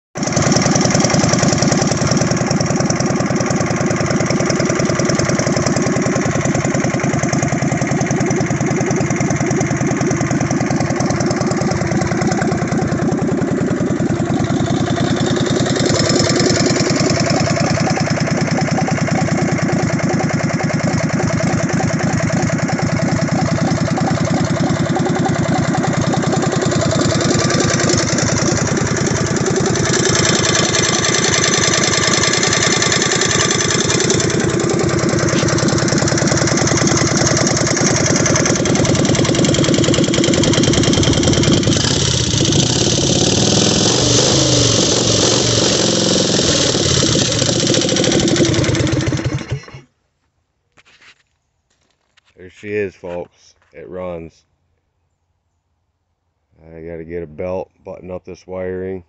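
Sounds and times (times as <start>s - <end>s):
riding mower engine running: 0.2s - 49.9s.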